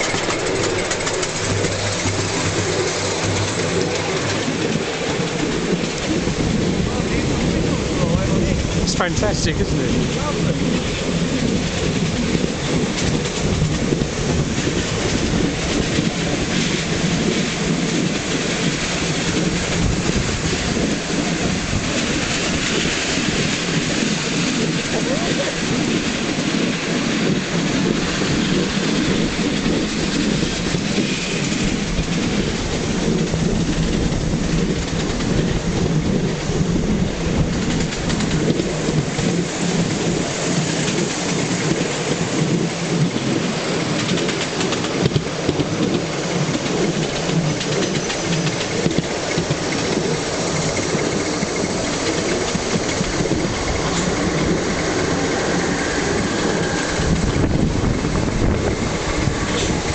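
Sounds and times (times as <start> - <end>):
steam exhaust rushing: 0.0 - 59.9
wheels rumbling on rails: 0.0 - 59.9.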